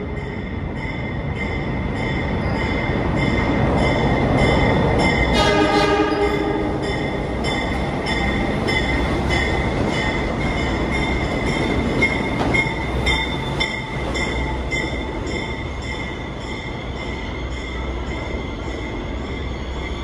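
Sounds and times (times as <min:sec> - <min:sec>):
diesel locomotive engine rumbling: 0:00.0 - 0:20.0
steel wheels rolling on rails: 0:00.0 - 0:20.0.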